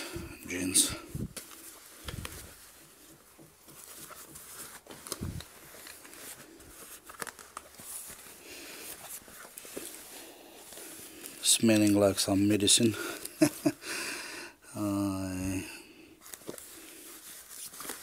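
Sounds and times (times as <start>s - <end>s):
denim jeans rustling: 0.0s - 13.8s, 16.2s - 18.0s.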